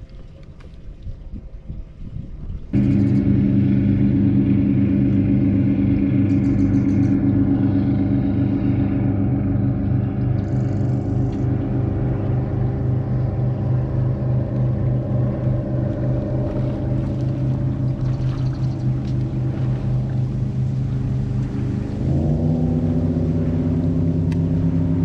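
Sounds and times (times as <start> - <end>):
boat motor humming: 0.0 - 25.0.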